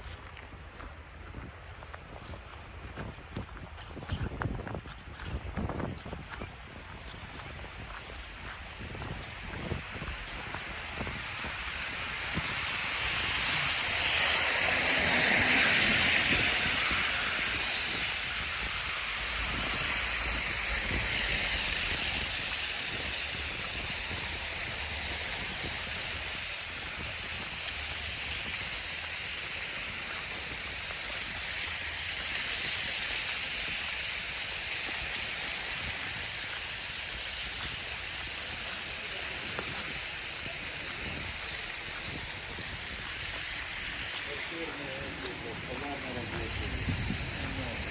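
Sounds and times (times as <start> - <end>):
snowstorm rushing noise: 2.6 - 47.9.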